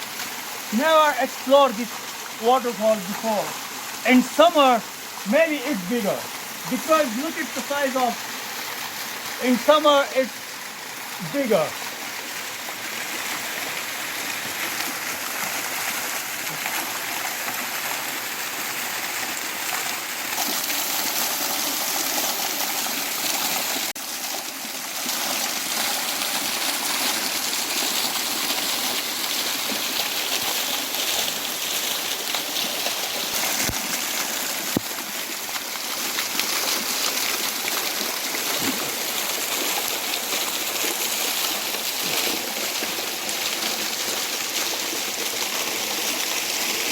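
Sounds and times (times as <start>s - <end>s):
waterfall pouring into stream: 0.0s - 46.9s.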